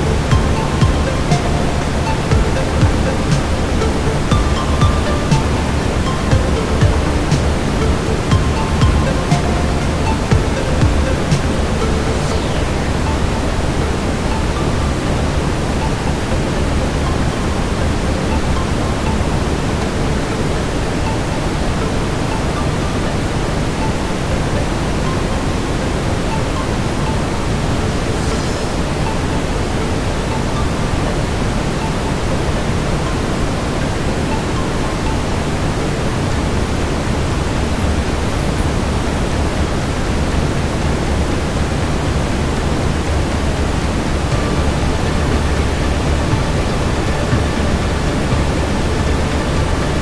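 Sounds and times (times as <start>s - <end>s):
deep brown noise hiss: 0.0s - 50.0s.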